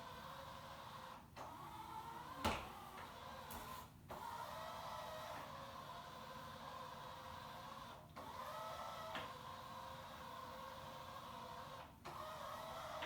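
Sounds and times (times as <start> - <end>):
robot floor cleaner motors whirring: 0.1 - 13.0.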